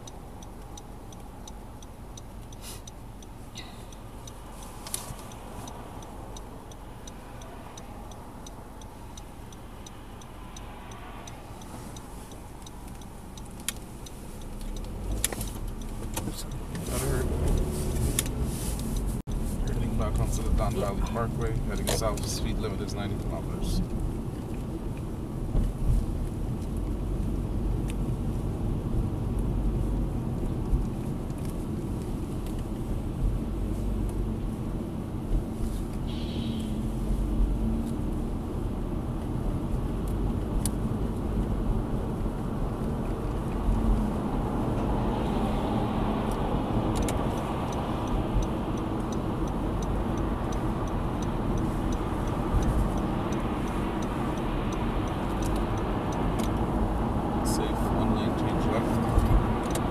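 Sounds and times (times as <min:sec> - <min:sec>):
car road and engine noise: 0:00.0 - 0:59.9
turn signal ticking: 0:00.0 - 0:59.9.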